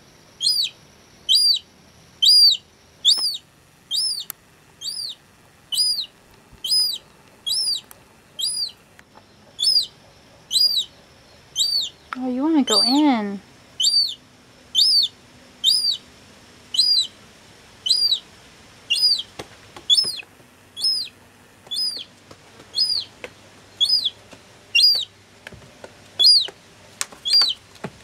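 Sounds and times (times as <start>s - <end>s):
gull chick peeping: 0.4s - 8.8s, 9.4s - 13.2s, 13.8s - 16.1s, 16.7s - 17.2s, 17.8s - 25.2s, 26.1s - 27.8s.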